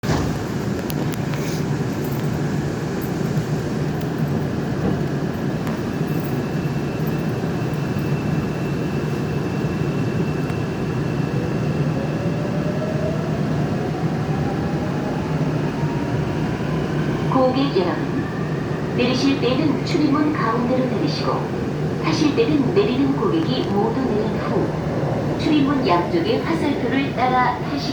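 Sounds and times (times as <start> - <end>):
train wheels rumbling on track: 0.0 - 27.9.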